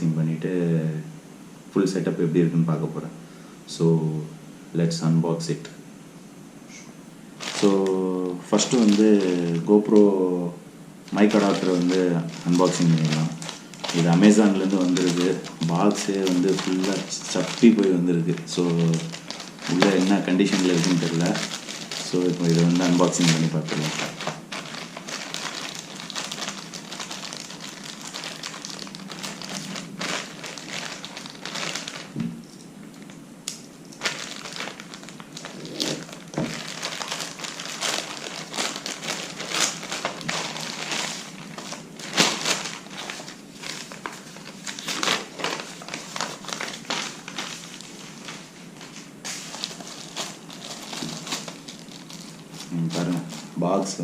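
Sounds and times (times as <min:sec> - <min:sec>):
packaging crinkling and rustling: 0:07.4 - 0:10.3, 0:11.0 - 0:33.2, 0:33.9 - 0:54.0.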